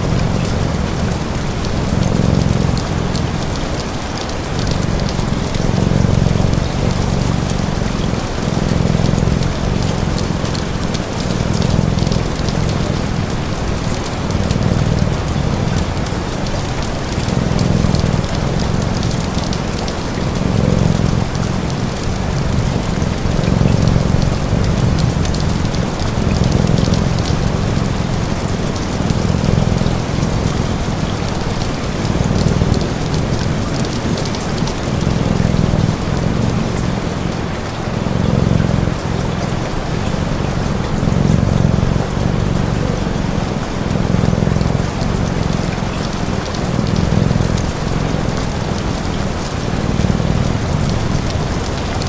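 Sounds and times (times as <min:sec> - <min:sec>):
cat purring: 0:00.0 - 0:52.0
crackling fire: 0:00.0 - 0:52.0
steady rain: 0:00.0 - 0:52.0.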